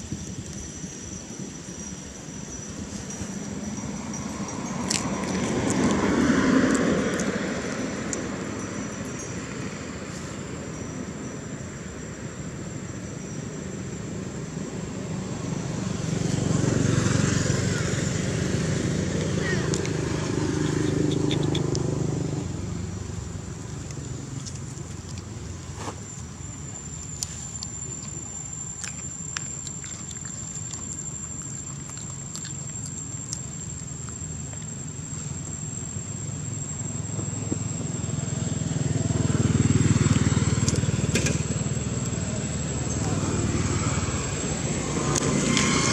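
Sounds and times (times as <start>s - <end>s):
steady high-pitched tone: 0.0s - 21.0s, 22.1s - 45.9s
passing vehicle engine rumble: 0.0s - 45.9s.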